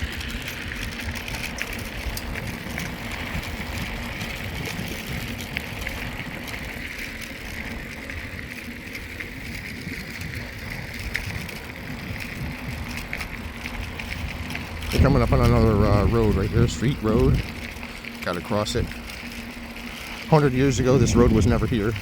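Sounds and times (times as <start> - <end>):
bicycle drivetrain noise: 0.0 - 22.0
bicycle tyres rolling: 0.0 - 22.0
small rattles and clicks: 0.0 - 22.0
wind rumbling on microphone: 0.0 - 22.0.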